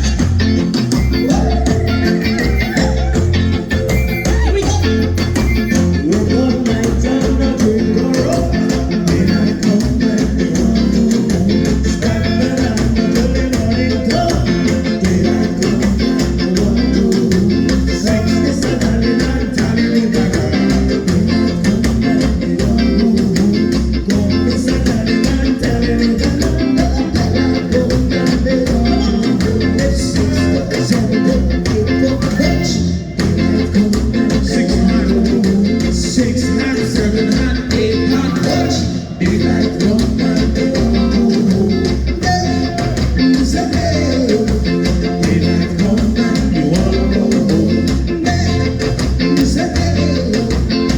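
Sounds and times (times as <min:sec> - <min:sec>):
live ska band playing: 0:00.0 - 0:50.9.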